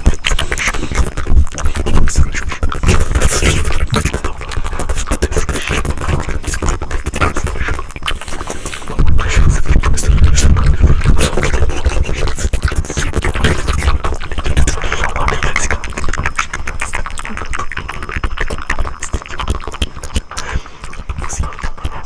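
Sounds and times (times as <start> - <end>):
wet mouth clicks and pops: 0.0 - 22.0.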